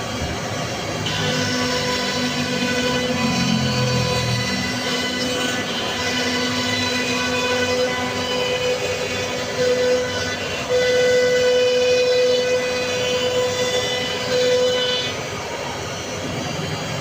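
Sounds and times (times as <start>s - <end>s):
router machine whine: 0.0s - 17.0s
wood cutting noise: 0.0s - 17.0s.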